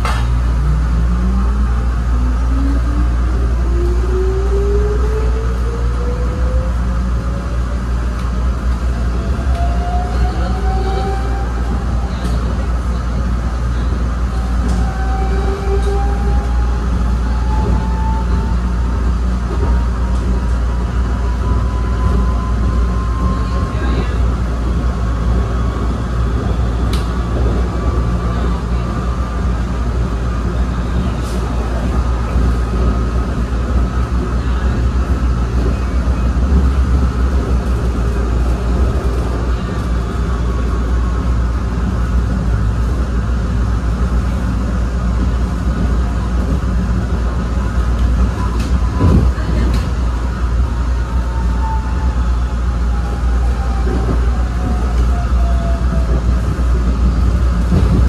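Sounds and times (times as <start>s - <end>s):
light-rail car rumbling on rails: 0.0s - 58.0s.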